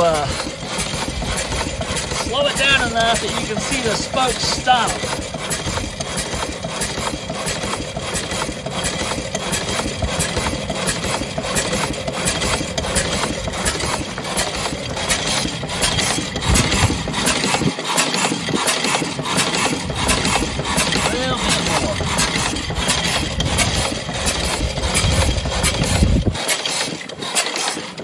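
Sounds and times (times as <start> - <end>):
single-cylinder engine idling: 0.0 - 28.0.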